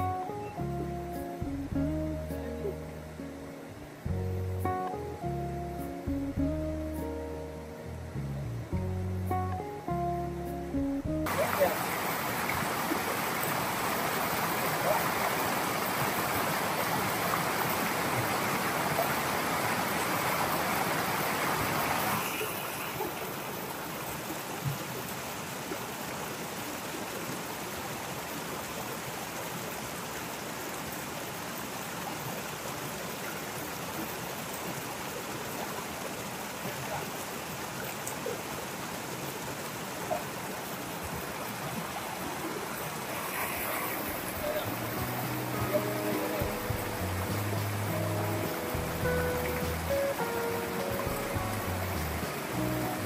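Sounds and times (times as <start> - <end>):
stream and waterfall rushing: 0.0 - 53.0.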